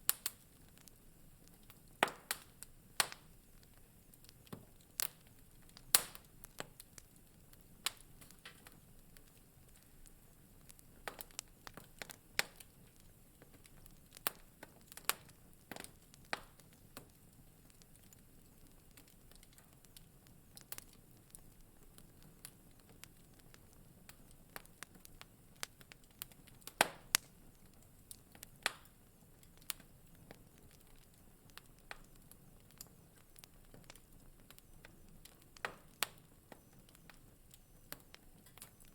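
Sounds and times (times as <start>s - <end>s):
soft low hiss: 0.0s - 38.9s
wood fire crackling: 0.0s - 38.9s.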